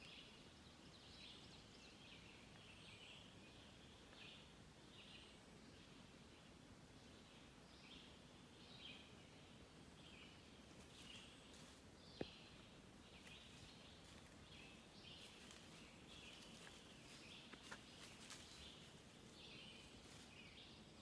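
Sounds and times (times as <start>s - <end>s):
faint woodland ambience: 0.0s - 21.0s.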